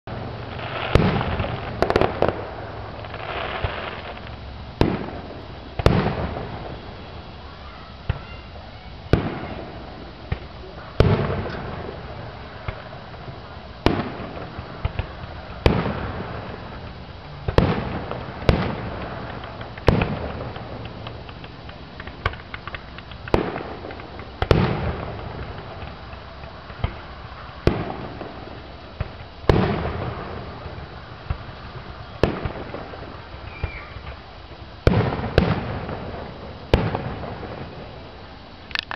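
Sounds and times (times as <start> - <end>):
fireworks crackle: 0.0 - 38.9.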